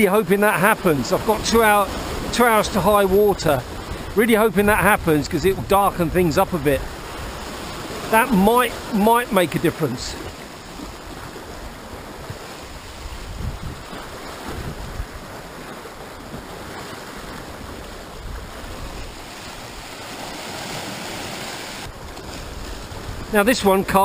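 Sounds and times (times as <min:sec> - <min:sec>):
surf breaking over rocks: 0:00.0 - 0:24.0
wind buffeting microphone: 0:01.2 - 0:08.9, 0:10.2 - 0:23.8.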